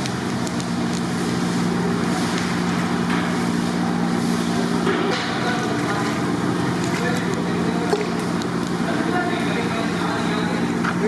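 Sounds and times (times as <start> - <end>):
mechanical hum: 0.0 - 11.0
noisy roar: 0.0 - 11.0.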